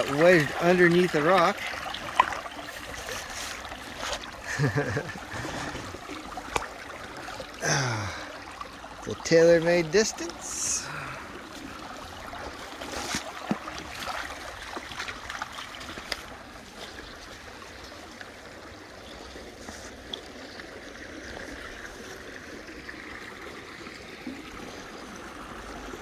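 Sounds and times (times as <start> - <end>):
creek water over rocks: 0.0 - 26.0.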